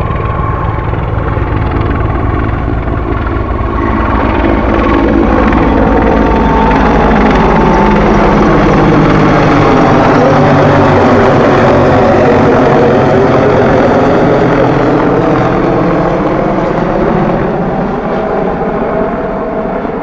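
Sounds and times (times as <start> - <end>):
helicopter rotor noise: 0.0 - 20.0.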